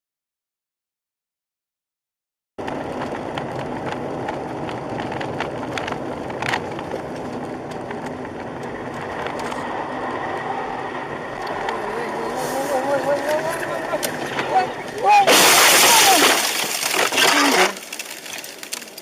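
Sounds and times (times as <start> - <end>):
car road and engine noise: 2.6 - 19.0.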